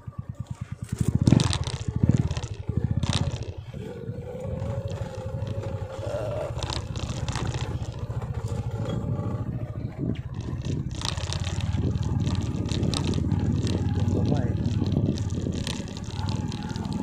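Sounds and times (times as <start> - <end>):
motorcycle engine running: 0.0 - 17.0
motorcycle rattling: 0.0 - 17.0.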